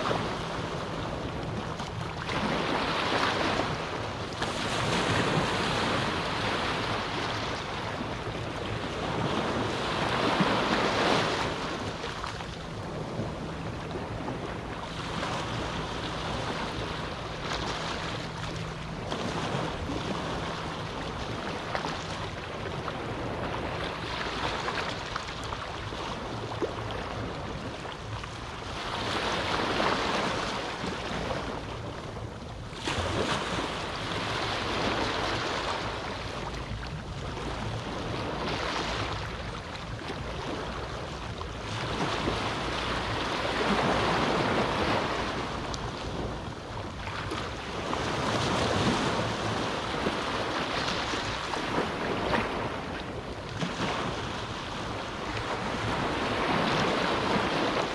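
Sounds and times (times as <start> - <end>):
small waves breaking on beach: 0.0 - 32.0, 32.7 - 57.9.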